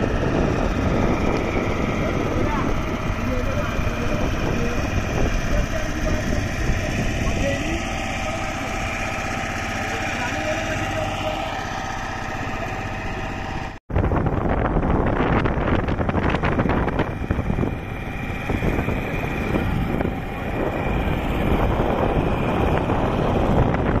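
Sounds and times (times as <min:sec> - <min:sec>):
wind on microphone: 0:00.0 - 0:09.8, 0:10.8 - 0:24.0
motor boat engine: 0:00.0 - 0:24.0.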